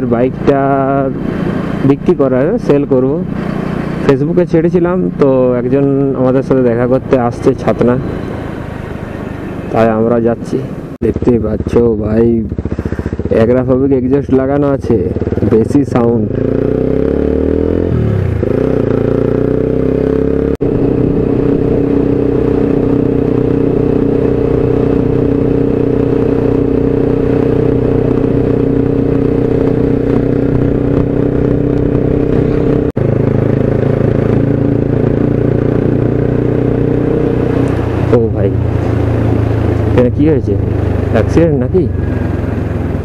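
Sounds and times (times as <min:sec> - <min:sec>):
motorcycle engine cruising: 0:00.0 - 0:43.0.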